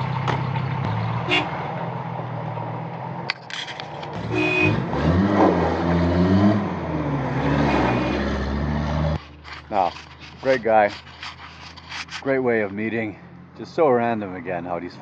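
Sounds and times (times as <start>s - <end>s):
vehicle engine idling and revving: 0.0s - 15.0s.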